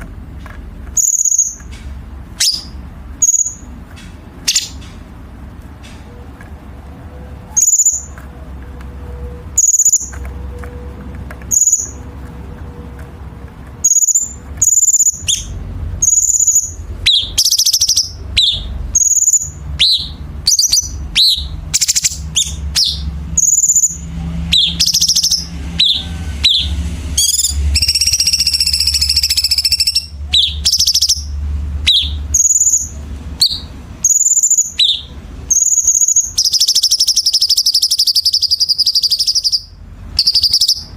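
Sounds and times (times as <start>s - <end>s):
songbird singing chirped notes: 0.9s - 13.0s, 13.6s - 40.9s.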